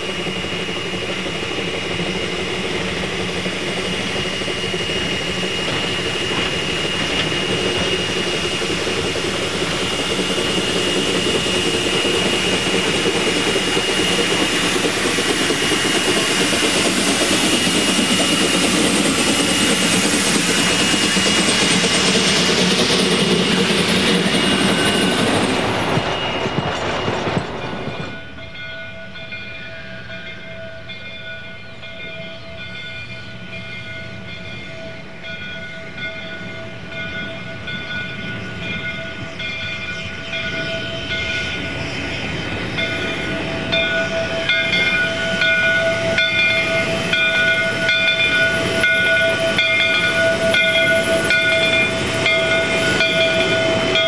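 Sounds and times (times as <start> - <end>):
rhythmic rail clatter: 0.0 - 54.0
train wheels squealing: 0.0 - 54.0.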